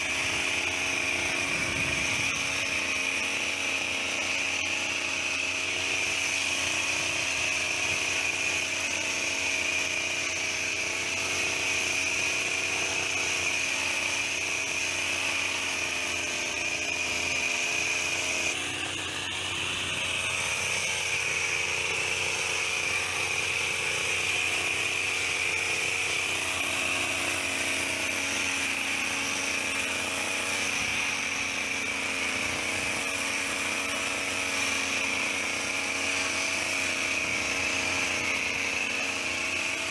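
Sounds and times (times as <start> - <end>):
hedge trimmer engine running: 0.0 - 39.9.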